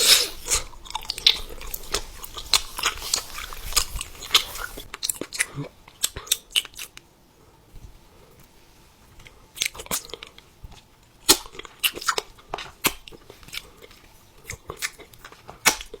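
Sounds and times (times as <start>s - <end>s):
crunchy food chewing: 0.0s - 7.0s, 9.2s - 16.0s.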